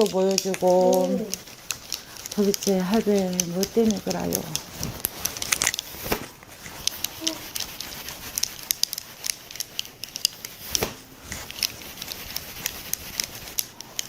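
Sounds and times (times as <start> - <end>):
faint rustling: 0.0 - 14.0
light clicks and ticks: 0.0 - 14.0.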